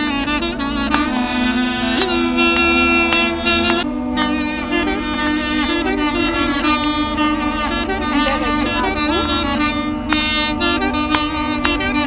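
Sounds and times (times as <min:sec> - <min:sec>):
duduk ensemble melody: 0:00.0 - 0:12.0
low drone note: 0:00.0 - 0:12.0.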